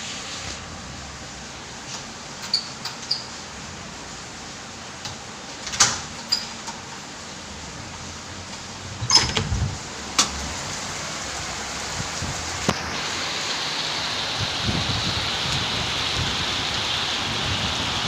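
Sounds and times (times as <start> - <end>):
rain hissing: 0.0 - 5.5, 6.9 - 18.0.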